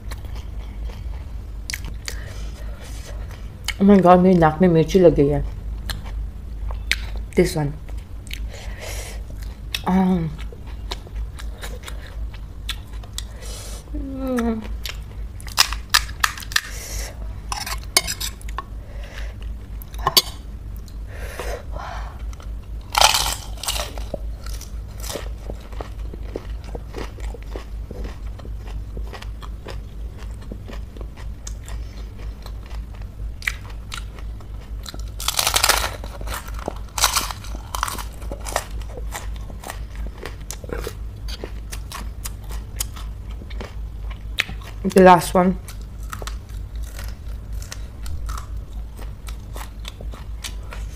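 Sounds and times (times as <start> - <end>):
crunching and chewing: 0.0 - 3.8, 5.4 - 21.1, 22.1 - 44.9, 45.6 - 50.9
steady low hum: 0.0 - 50.9.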